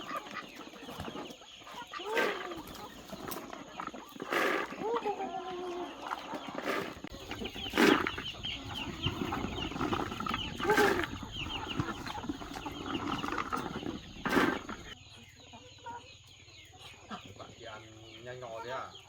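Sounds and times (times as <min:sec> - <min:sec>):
chickens clucking and chirping: 0:00.0 - 0:19.0.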